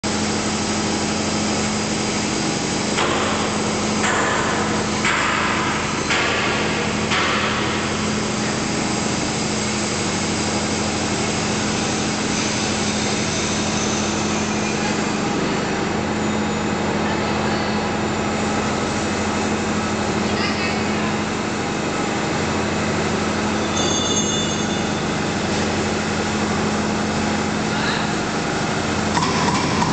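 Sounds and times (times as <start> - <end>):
loud noisy machine surges: 0.0 - 29.9
plate rolling machine humming: 0.0 - 29.9.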